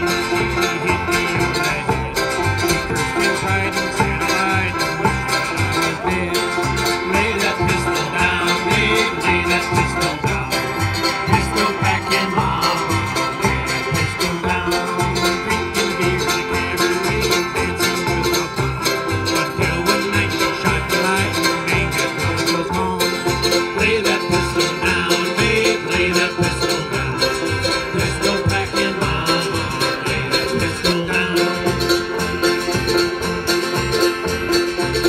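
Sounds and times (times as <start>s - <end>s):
banjo rolls: 0.0s - 35.0s
mandolin: 0.0s - 35.0s
strummed acoustic guitar: 0.0s - 35.0s
upright bass plucking: 0.0s - 35.0s.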